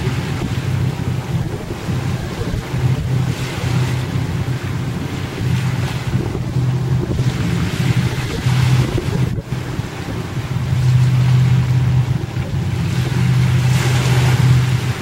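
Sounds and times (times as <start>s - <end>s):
choppy sea: 0.0s - 15.0s
low rumble: 0.0s - 15.0s
wind buffeting the microphone: 0.0s - 15.0s.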